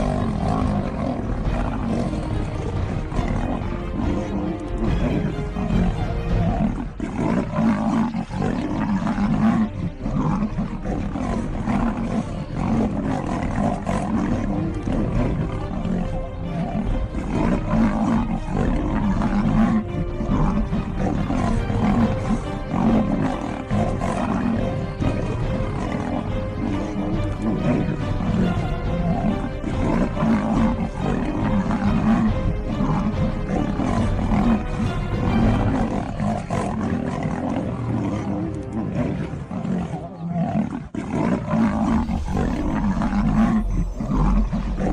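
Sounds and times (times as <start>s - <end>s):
background music: 0.0s - 44.9s
big cats roaring: 0.0s - 44.9s.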